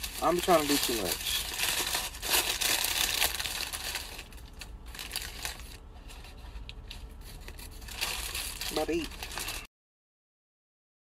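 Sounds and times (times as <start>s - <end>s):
paper wrapper crinkling: 0.0s - 9.7s.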